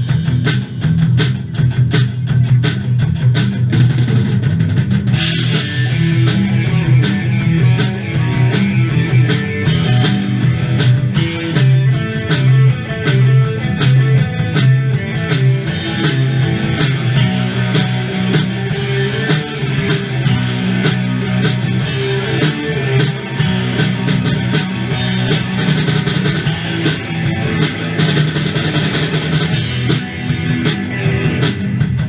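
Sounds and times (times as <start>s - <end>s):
bass guitar: 0.0s - 32.0s
drum kit: 0.0s - 32.0s
electric guitars strumming: 5.1s - 32.0s.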